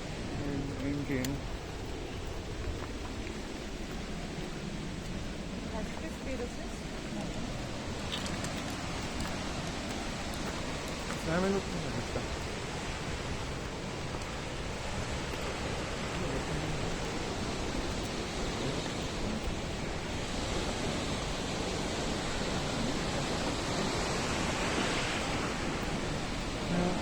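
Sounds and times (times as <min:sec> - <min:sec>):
waterfall rushing: 0:04.2 - 0:27.0.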